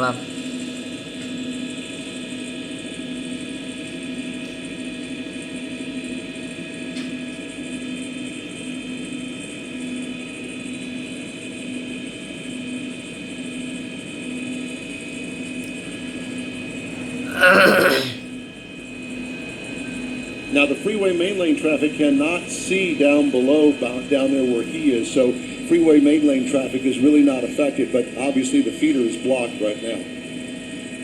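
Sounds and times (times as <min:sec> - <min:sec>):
helicopter engine and rotor drone: 0:00.0 - 0:17.1, 0:18.6 - 0:31.0.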